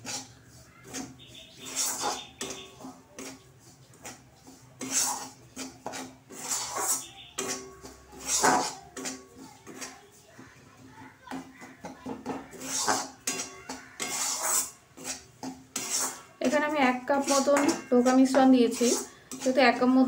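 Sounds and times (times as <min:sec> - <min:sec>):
metal spatula scraping a pan: 0:00.0 - 0:20.0.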